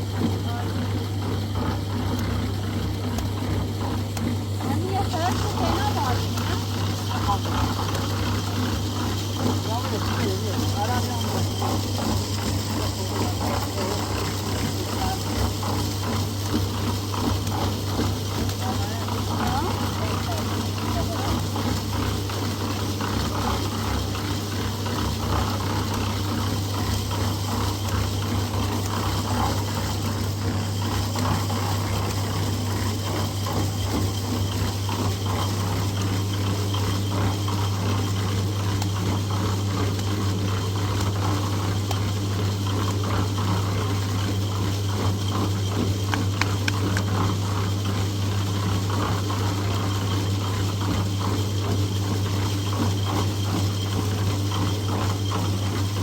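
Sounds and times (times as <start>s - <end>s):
machine humming and rattling: 0.0s - 56.0s.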